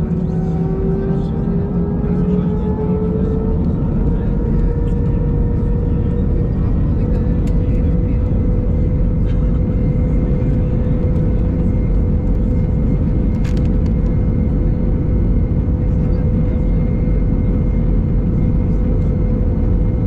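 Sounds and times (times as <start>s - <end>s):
airplane cabin rumble and hum: 0.0s - 20.0s.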